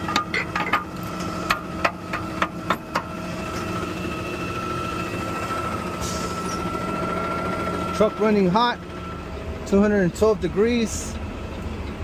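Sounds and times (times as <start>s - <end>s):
garbage truck diesel engine idling: 0.0s - 12.0s
steady whine: 0.0s - 12.0s.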